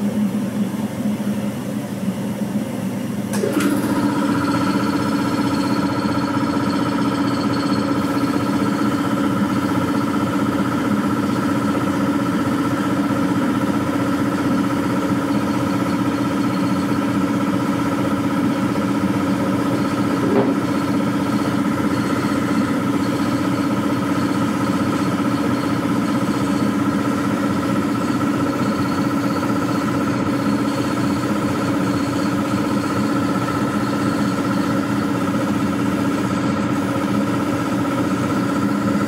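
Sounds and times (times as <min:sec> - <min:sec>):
machinery motor drone: 0:03.3 - 0:38.8.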